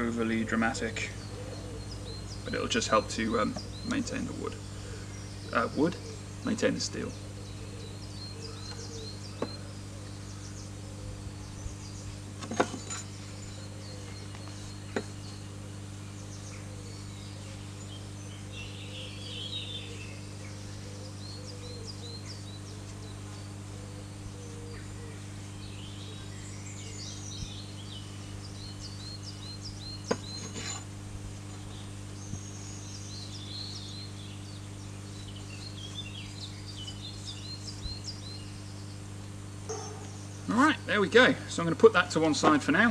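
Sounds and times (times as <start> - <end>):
small birds chirping: 0.0 - 42.9
steady low hum: 0.0 - 42.9.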